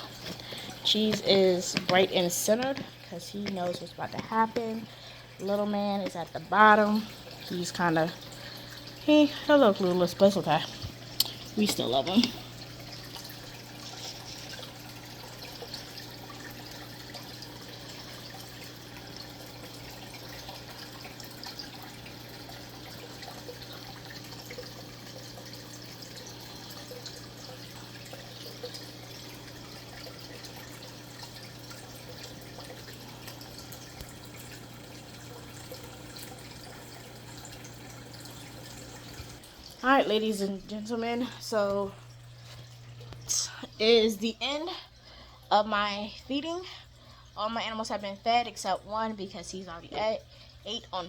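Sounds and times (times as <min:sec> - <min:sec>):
water trickling and dripping: 0:00.0 - 0:51.0.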